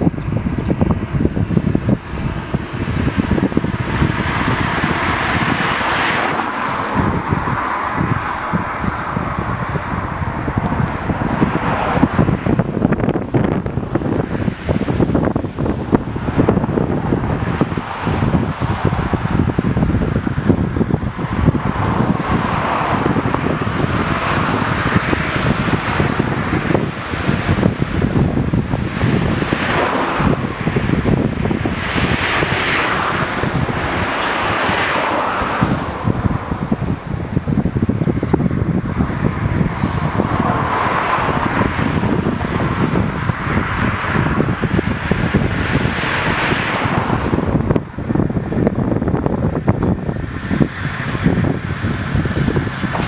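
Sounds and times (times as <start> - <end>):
rushing noise: 0.0 - 53.0
wind buffeting microphone: 0.0 - 53.0.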